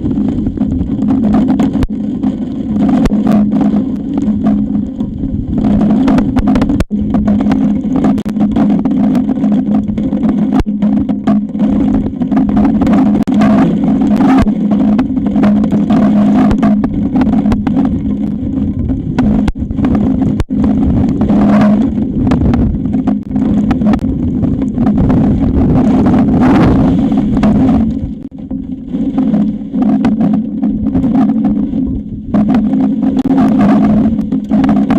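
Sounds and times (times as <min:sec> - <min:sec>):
strong wind buffeting microphone: 0:00.0 - 0:34.9.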